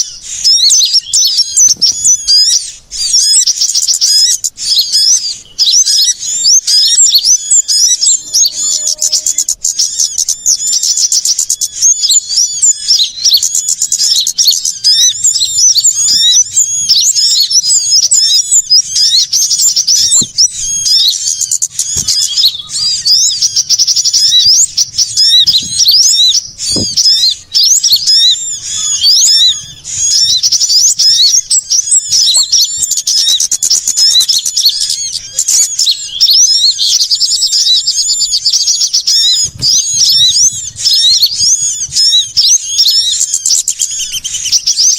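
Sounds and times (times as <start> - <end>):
small songbirds chirping and trilling: 0.0 - 44.9.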